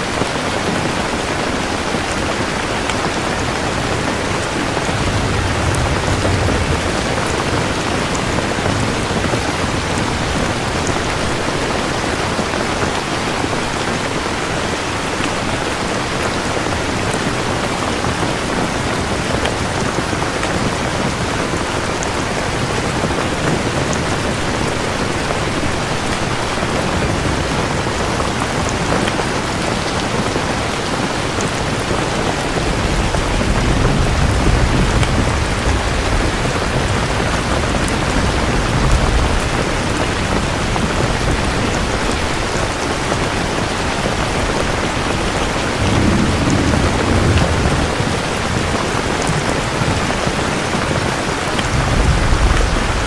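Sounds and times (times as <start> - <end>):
heavy rain falling: 0.0 - 53.0
distant thunder rumble: 3.3 - 11.6, 17.3 - 53.0.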